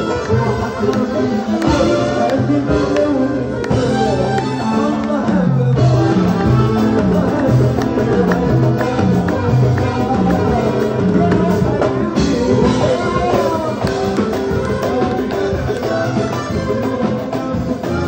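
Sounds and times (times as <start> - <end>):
man singing through microphone: 0.0 - 18.0
percussion beat: 0.0 - 18.0.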